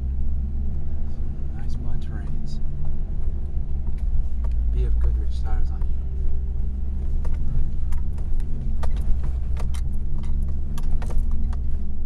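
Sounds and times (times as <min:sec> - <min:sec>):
truck engine running low: 0:00.0 - 0:12.0.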